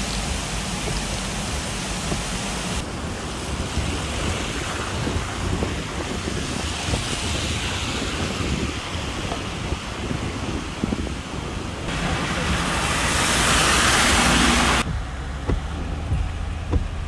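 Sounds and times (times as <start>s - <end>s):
car driving on wet road: 0.0s - 17.0s
water rushing down rocks: 0.0s - 17.0s
wind buffeting microphone: 0.9s - 17.0s.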